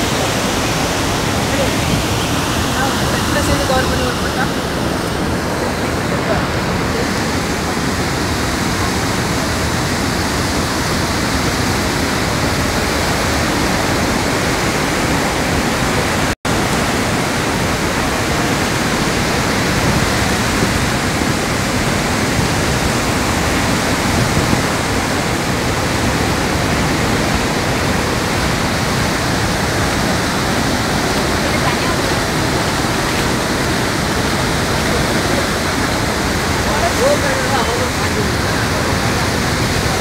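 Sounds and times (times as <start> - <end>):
river rushing: 0.0 - 40.0.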